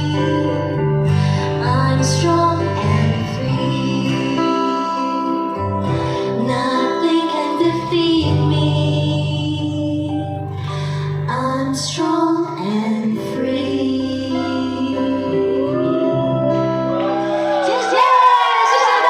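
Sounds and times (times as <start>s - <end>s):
women singing slow song: 0.0s - 10.5s, 11.1s - 19.0s
held bass notes: 0.0s - 17.6s.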